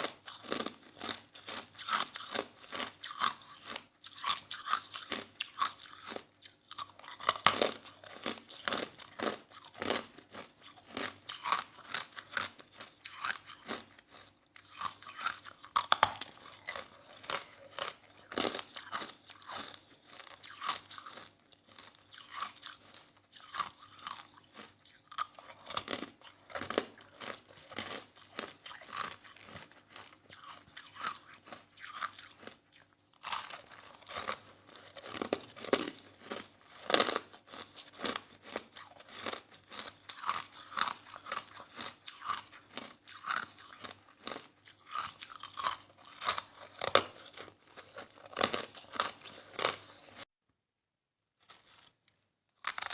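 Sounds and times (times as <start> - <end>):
person chewing ice: 0.0 - 50.3, 51.4 - 52.9.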